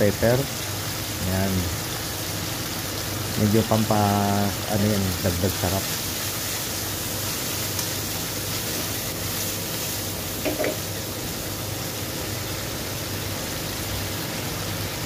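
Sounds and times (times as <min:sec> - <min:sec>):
seafood sizzling in a wok: 0:00.0 - 0:15.0.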